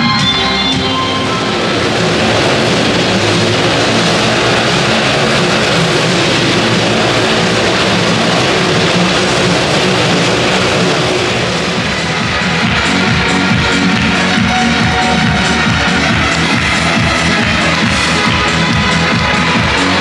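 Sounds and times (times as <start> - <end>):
motorcycle engines revving: 0.4 - 20.0.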